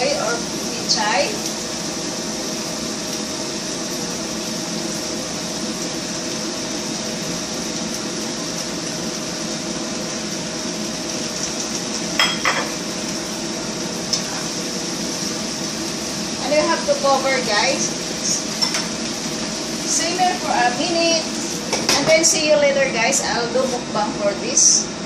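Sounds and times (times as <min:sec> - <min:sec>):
vegetables sizzling in a pan: 0:00.0 - 0:25.0.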